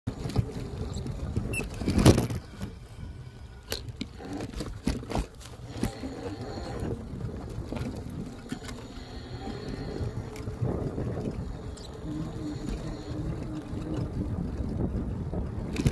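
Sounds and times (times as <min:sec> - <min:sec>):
electric bike low rumble: 0:00.1 - 0:15.9.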